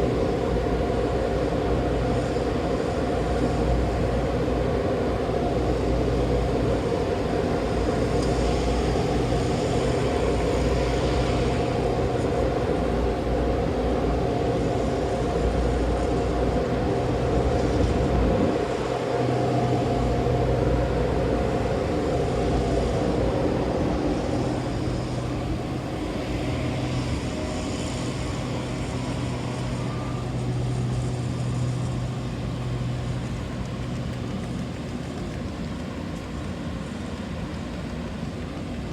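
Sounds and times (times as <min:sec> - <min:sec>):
train higher drone: 0:00.0 - 0:38.9
train low hum: 0:00.0 - 0:38.9.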